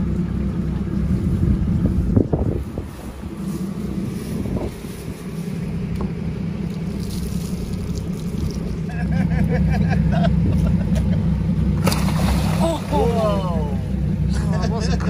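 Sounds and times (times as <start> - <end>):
motorboat engine idling: 0.0 - 15.0.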